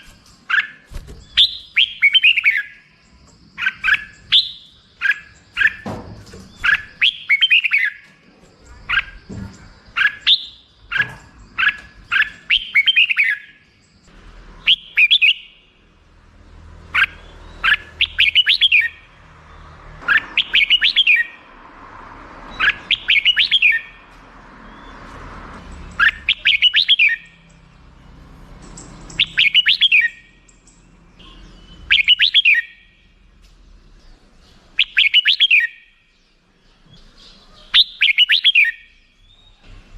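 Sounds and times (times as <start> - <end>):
bulbul singing: 0.0 - 39.8.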